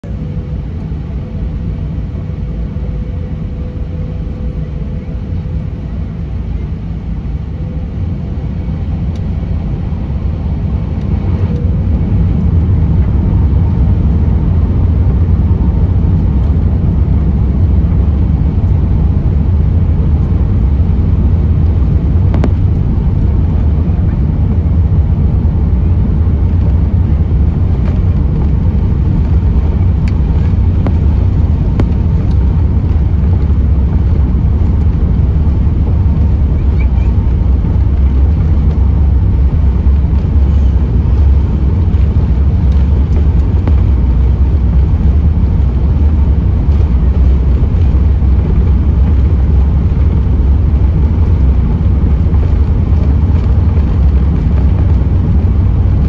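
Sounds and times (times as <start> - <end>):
aircraft engines rumbling: 0.0 - 56.0.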